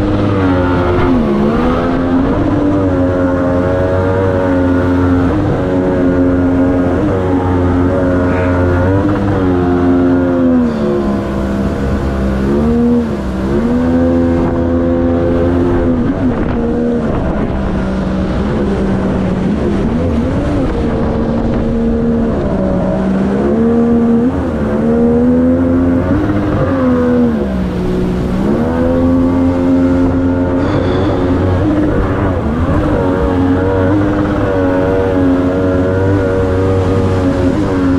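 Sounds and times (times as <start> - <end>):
outboard jet motor running: 0.0 - 37.9.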